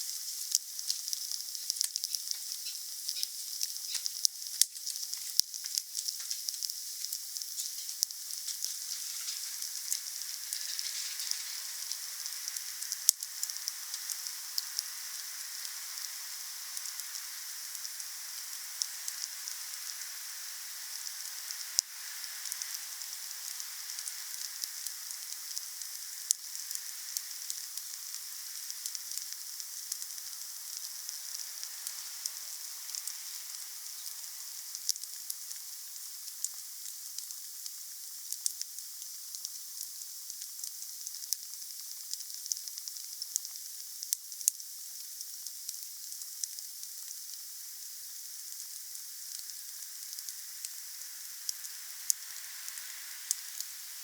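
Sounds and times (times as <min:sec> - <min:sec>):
burning wood crackling: 0:00.0 - 0:43.5, 0:46.1 - 0:54.0
campfire hissing: 0:00.0 - 0:54.0.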